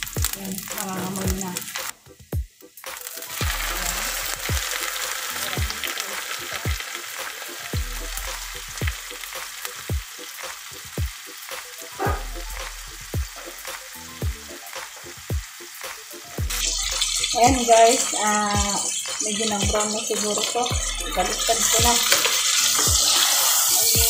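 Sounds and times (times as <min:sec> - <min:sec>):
low repeating beat: 0:00.0 - 0:19.9, 0:20.7 - 0:22.1, 0:22.9 - 0:23.1
chicken sizzling in fat: 0:00.0 - 0:24.0.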